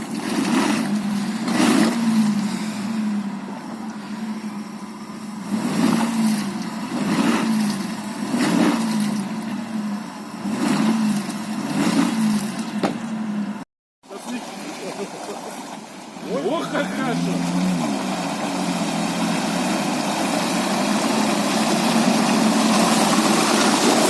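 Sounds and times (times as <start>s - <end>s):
van engine under load: 0.0s - 24.0s.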